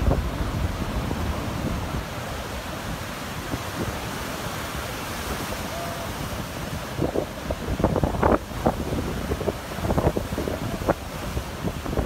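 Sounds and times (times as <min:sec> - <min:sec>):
heavy surf breaking: 0:00.0 - 0:12.0
wind buffeting microphone: 0:00.0 - 0:12.0.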